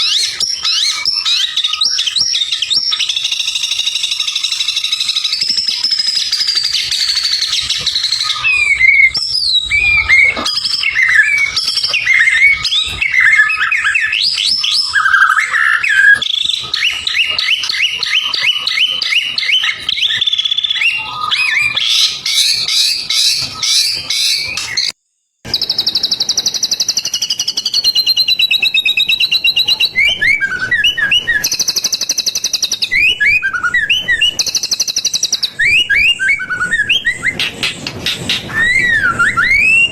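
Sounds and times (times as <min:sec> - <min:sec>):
songbird singing whistled song: 0:00.0 - 0:39.9.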